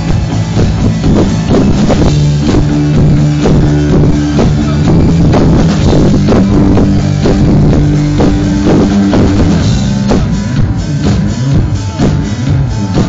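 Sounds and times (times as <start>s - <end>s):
bass guitar: 0.0s - 13.0s
drum kit beat: 0.0s - 13.0s
electric guitar: 0.0s - 13.0s.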